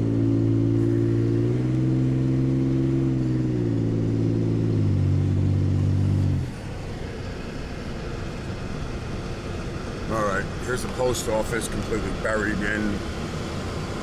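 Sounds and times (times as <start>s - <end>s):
vehicle engine hum inside cab: 0.0s - 14.0s.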